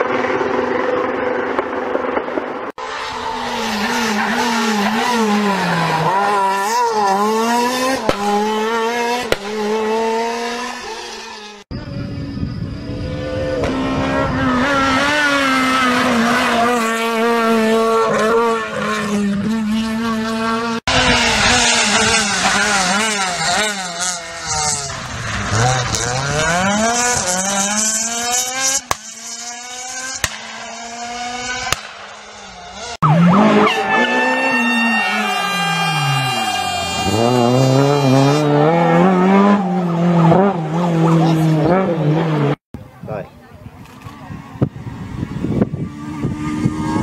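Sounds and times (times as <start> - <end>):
rally car engines at high revs: 0.0 - 47.0.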